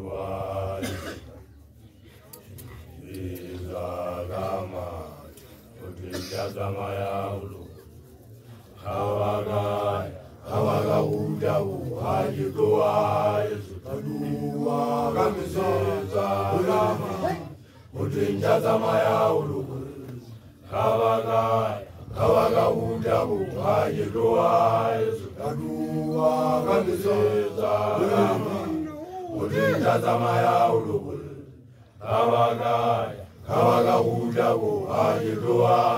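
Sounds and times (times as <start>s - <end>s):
men chanting in low voices: 3.1s - 7.6s, 8.8s - 35.9s.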